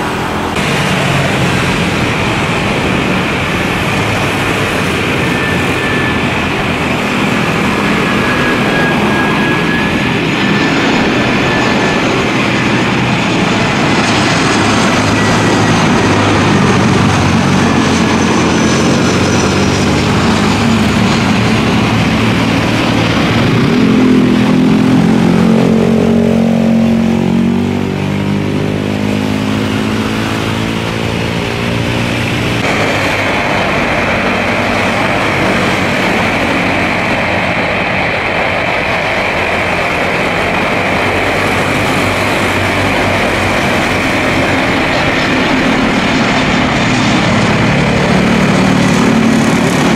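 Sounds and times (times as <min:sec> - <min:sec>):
jet airliner passing by: 0:00.0 - 0:49.9
steady jet rush: 0:00.0 - 0:49.9.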